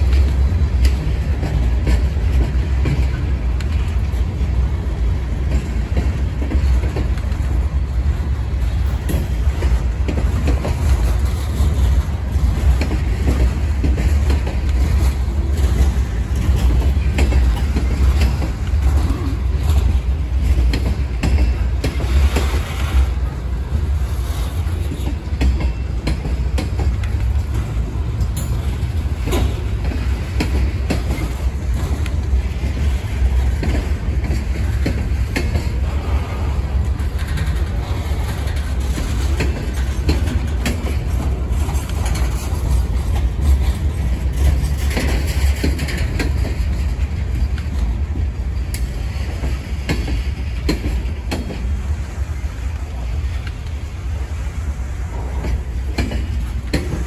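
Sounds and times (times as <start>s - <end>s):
clanks of train cars and couplers: 0.0s - 57.0s
train wheels rumbling on rail: 0.0s - 57.0s.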